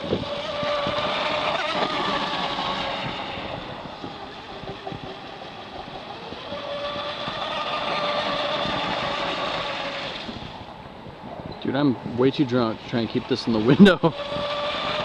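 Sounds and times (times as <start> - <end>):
rc boat motor whining: 0.0 - 15.0.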